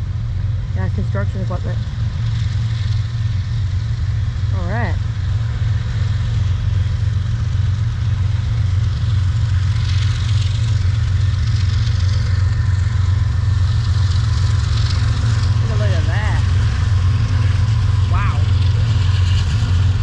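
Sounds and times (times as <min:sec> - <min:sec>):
train cars rumbling past: 0:00.0 - 0:20.0.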